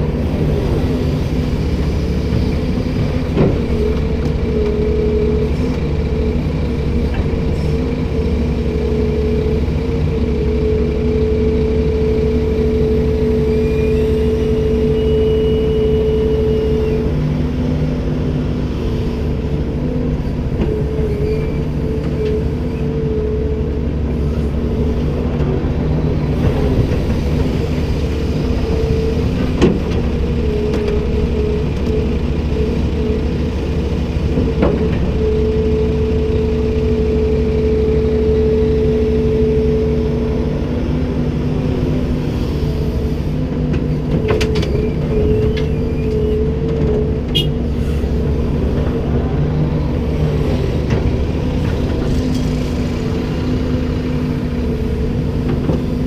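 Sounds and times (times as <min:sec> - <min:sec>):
excavator diesel engine whining: 0:00.0 - 0:56.0.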